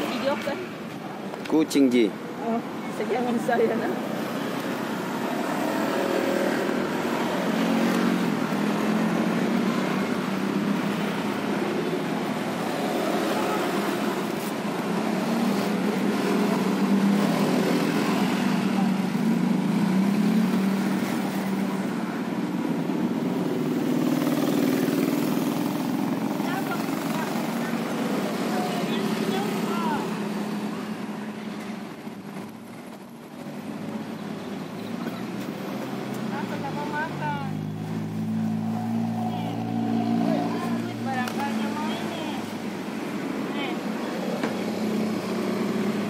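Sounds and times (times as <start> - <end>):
traffic engines droning: 0.0 - 46.0.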